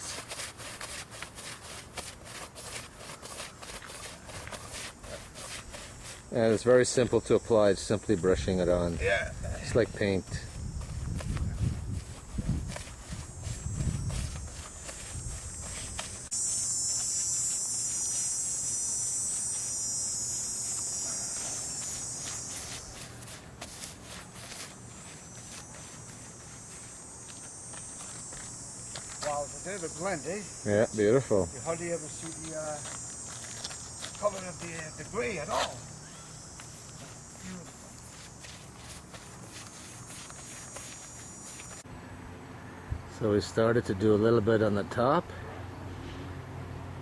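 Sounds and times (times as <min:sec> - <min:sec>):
paint brush scrubbing rough surface: 0:00.0 - 0:07.3, 0:09.7 - 0:35.8, 0:36.6 - 0:41.8
high insect buzz: 0:00.0 - 0:41.9.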